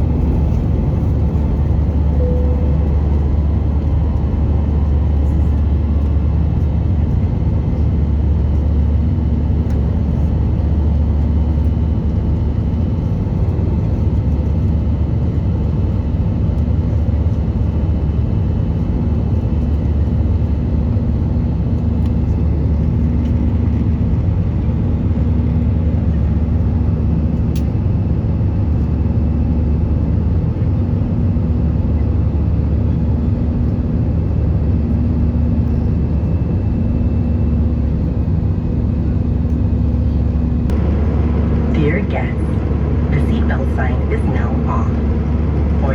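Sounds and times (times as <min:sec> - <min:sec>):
low pulsing hum: 0:00.0 - 0:26.2, 0:31.8 - 0:45.9
airplane cabin engine rumble: 0:00.0 - 0:45.9.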